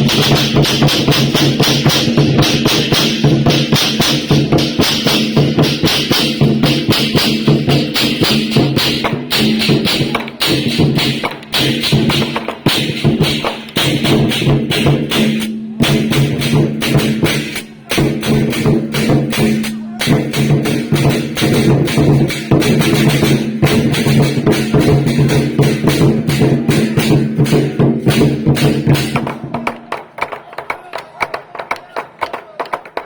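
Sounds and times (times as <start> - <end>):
fast percussion strikes: 0.0 - 33.0.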